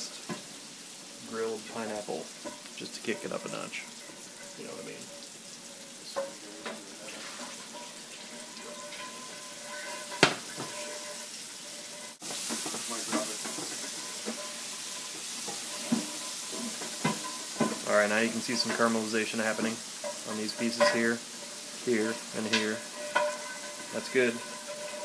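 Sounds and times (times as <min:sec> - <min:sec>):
food sizzling in butter: 0:00.0 - 0:25.0
spatula knocking and scraping: 0:02.4 - 0:25.0.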